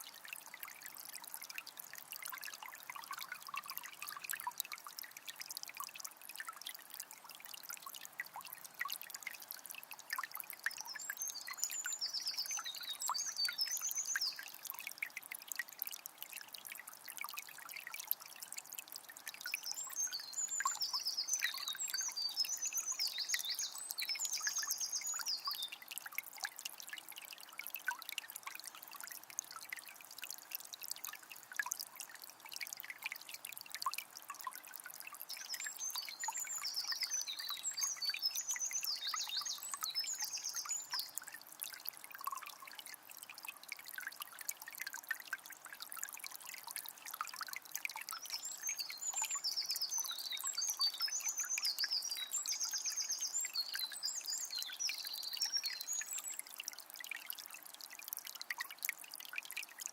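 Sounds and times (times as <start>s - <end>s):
spring water trickling: 0.0s - 59.9s.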